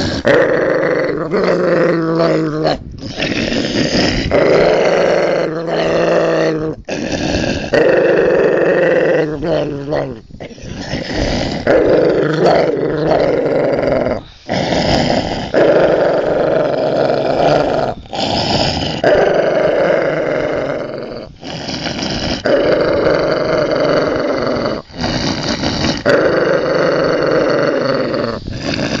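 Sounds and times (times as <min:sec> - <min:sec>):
dog growling: 0:00.0 - 0:29.0.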